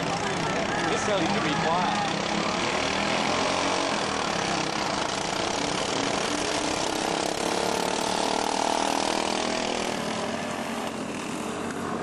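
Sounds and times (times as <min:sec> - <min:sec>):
lawn mower engines running loudly: 0:00.0 - 0:12.0.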